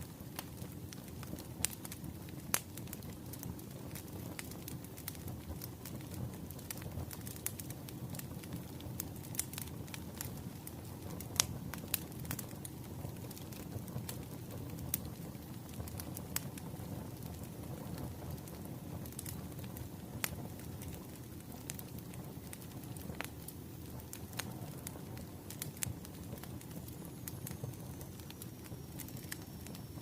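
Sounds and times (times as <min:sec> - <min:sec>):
burning logs rumble: 0:00.0 - 0:30.0
wood fire crackling: 0:00.0 - 0:30.0.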